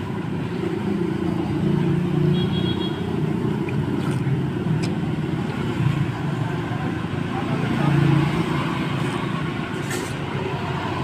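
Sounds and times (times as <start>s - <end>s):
street traffic engines rumbling: 0.0s - 11.0s.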